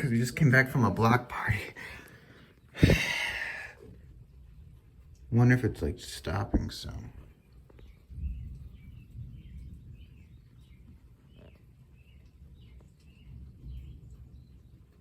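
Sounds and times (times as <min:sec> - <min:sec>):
birds chirping: 0:00.0 - 0:05.0, 0:06.2 - 0:15.0.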